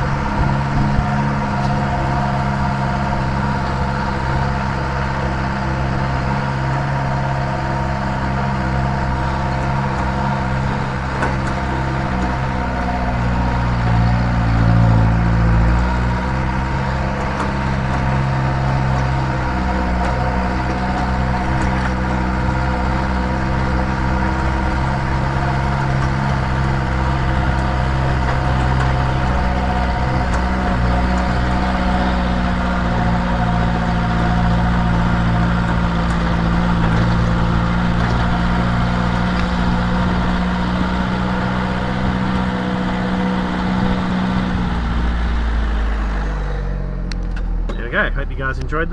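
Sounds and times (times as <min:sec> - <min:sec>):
engine running steadily: 0:00.0 - 0:48.9.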